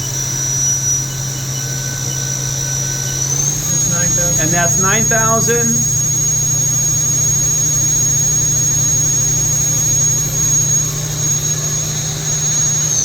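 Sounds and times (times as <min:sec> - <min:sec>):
machine spindle whine and hum: 0:00.0 - 0:13.0.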